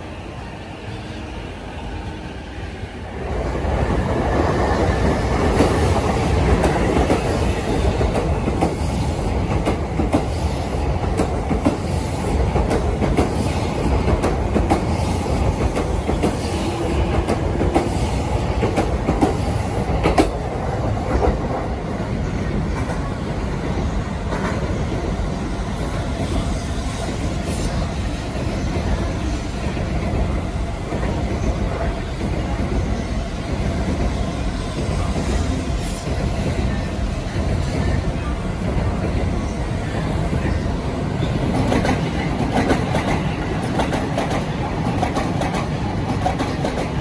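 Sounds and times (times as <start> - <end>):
electric train passing: 0.0 - 47.0.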